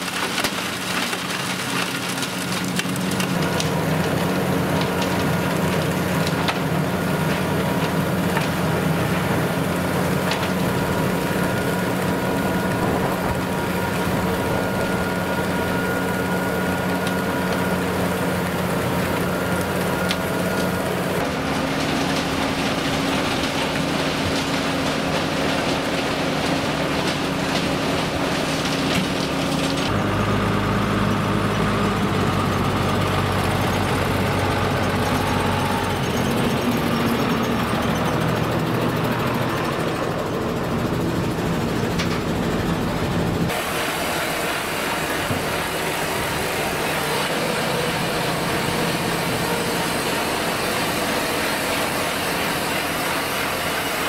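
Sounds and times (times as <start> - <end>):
engine running under load: 0.0 - 54.0
wood chipper shredding wood: 0.0 - 54.0
wood chips pattering: 0.0 - 54.0.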